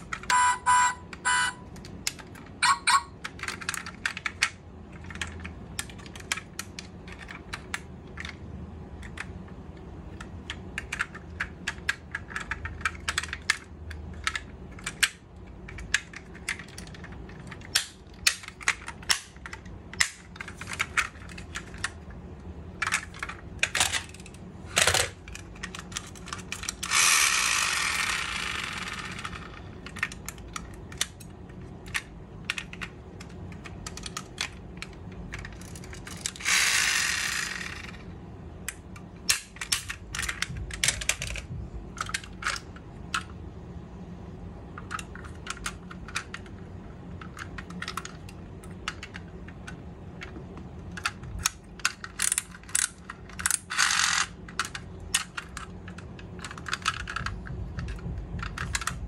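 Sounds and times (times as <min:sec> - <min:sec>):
toy car parts clicking: 0:00.0 - 0:22.1, 0:22.8 - 0:43.4, 0:44.8 - 0:59.0.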